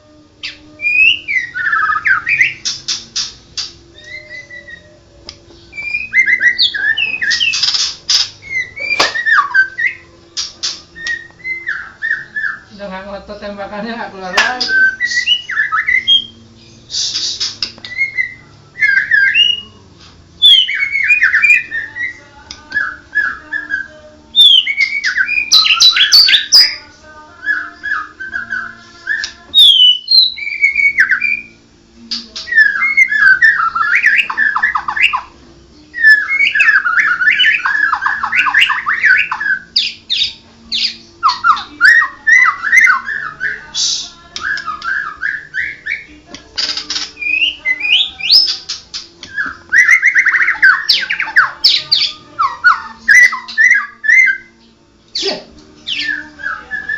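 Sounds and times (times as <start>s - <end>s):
bird singing whistled phrases: 0.4s - 3.3s, 3.9s - 5.0s, 5.6s - 12.8s, 14.3s - 19.8s, 20.4s - 26.8s, 27.4s - 35.3s, 35.9s - 56.9s.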